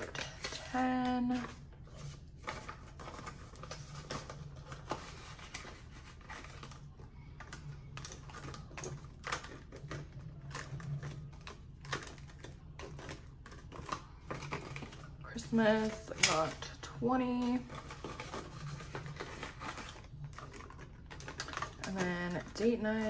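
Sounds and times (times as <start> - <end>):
faint low hum: 0.0 - 23.0
plastic sleeve clicks and crinkles: 0.0 - 23.0.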